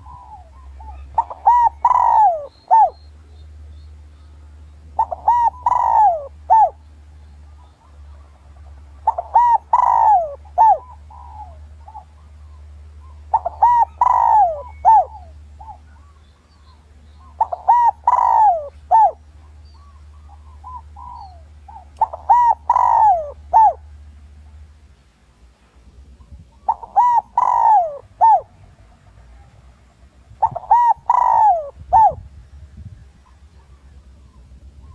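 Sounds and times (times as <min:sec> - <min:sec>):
dove cooing: 0:00.0 - 0:24.5, 0:26.2 - 0:32.4.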